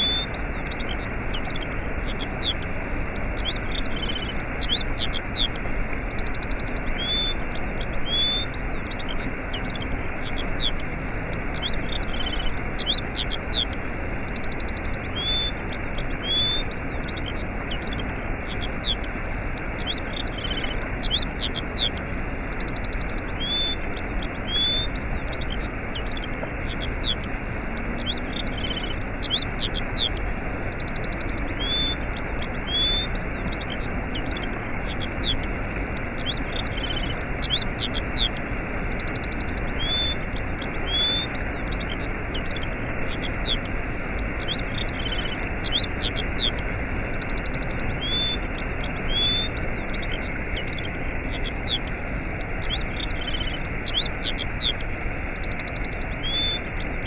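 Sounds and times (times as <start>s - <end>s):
small birds chirping: 0.0s - 57.0s
waterfall rushing: 0.0s - 57.0s.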